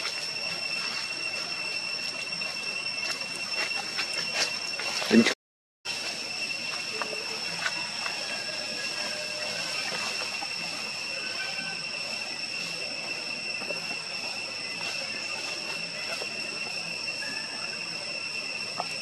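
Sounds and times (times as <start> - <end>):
faint insect chirps: 0.0 - 5.3, 5.9 - 19.0
high-pitched insect drone: 0.0 - 19.0.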